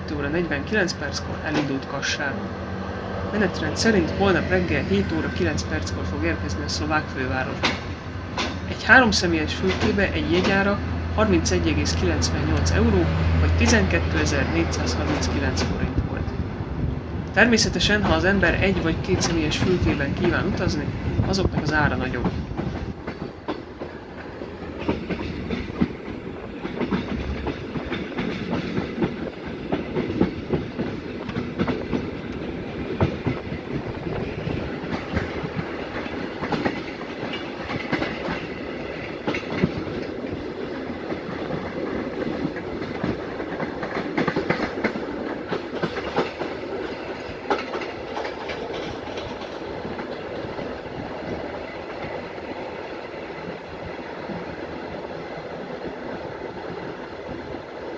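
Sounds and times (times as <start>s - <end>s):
train running gear rumble: 0.0s - 57.9s
train wheels clicking over rail joints: 0.2s - 2.4s, 3.3s - 16.2s, 17.3s - 57.9s.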